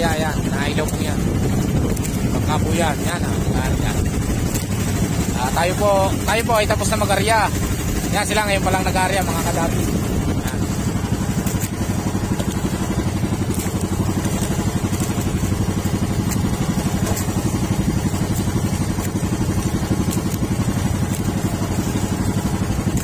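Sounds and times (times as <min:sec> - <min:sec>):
small boat engine puttering: 0:00.0 - 0:23.0.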